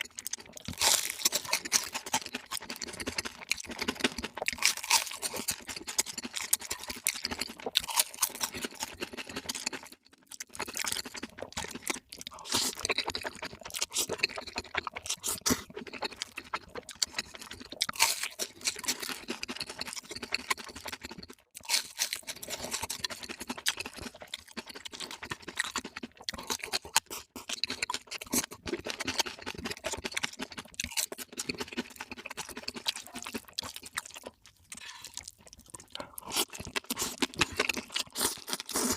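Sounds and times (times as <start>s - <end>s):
sped-up chewing and crunching: 0.0s - 38.9s.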